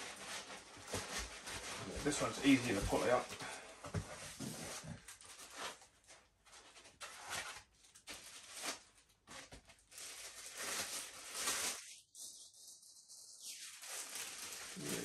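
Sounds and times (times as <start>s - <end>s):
plastic wrap crinkling: 0.0s - 3.3s, 4.9s - 15.0s.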